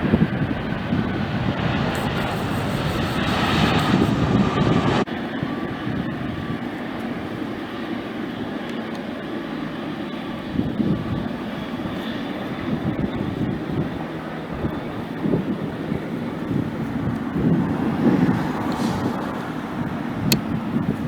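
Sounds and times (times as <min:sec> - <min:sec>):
airliner engines passing: 0:00.0 - 0:21.0.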